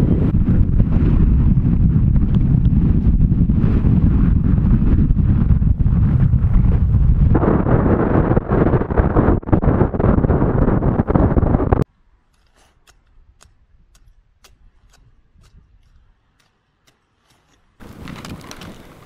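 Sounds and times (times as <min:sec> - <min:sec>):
wind buffeting microphone: 0:00.0 - 0:11.9, 0:13.0 - 0:16.5, 0:17.2 - 0:19.0.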